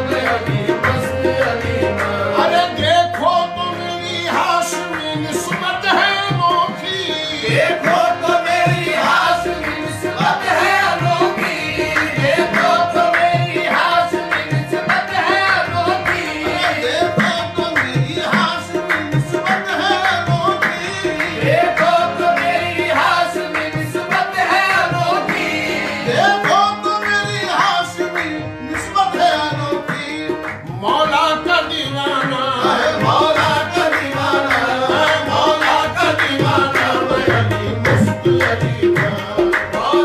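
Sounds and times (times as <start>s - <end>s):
harmoniums: 0.0s - 40.0s
men singing: 0.0s - 40.0s
tabla beat: 0.0s - 40.0s.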